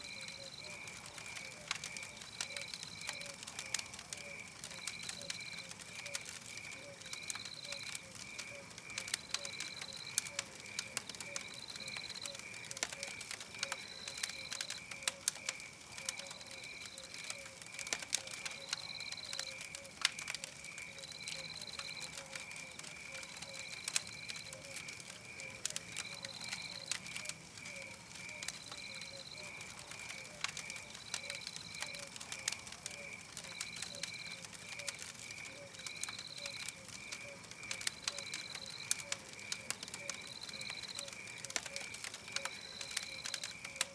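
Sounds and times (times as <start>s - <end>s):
high insect chirp: 0.0s - 43.9s
wood fire crackling and popping: 0.0s - 43.9s.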